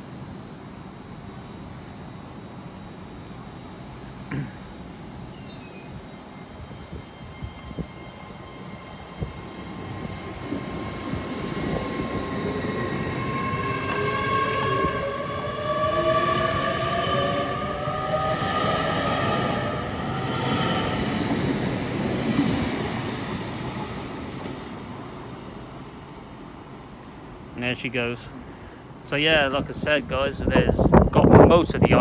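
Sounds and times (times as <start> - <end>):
train whine rising in pitch: 0.0 - 27.5.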